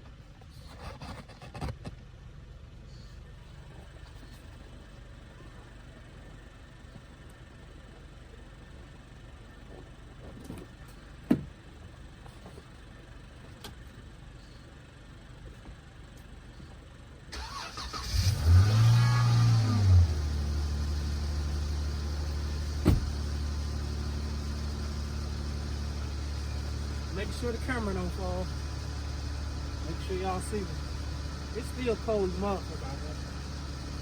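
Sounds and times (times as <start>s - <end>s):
truck engine cranking and idling: 3.4s - 34.0s.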